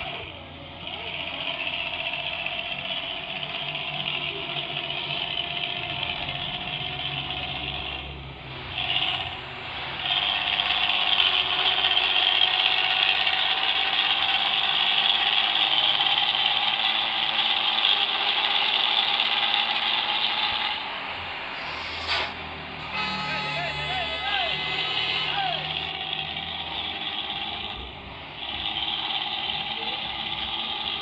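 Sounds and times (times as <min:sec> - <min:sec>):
bus engine rumbling: 0:00.0 - 0:31.0.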